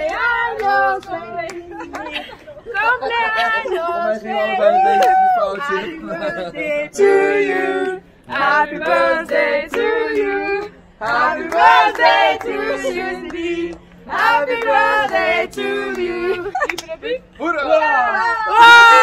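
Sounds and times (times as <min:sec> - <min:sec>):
group singing unaccompanied: 0:00.0 - 0:16.7.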